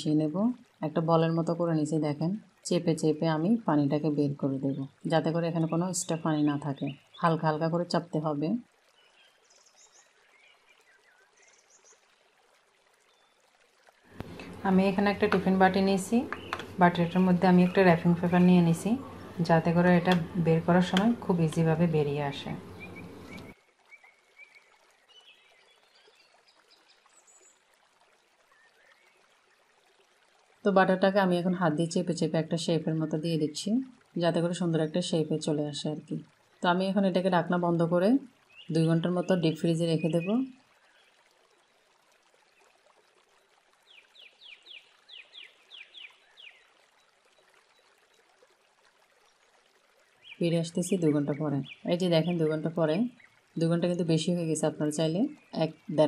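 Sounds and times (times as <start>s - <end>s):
low room hiss: 0.0s - 56.0s.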